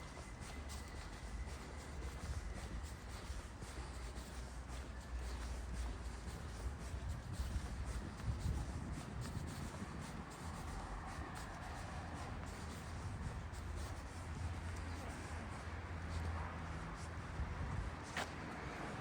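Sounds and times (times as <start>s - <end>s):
footstep scuffs and ticks: 0.0s - 19.0s.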